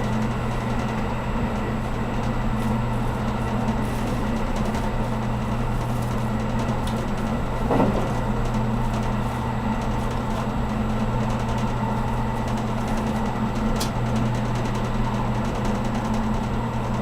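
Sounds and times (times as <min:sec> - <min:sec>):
train cabin rumble: 0:00.0 - 0:14.0.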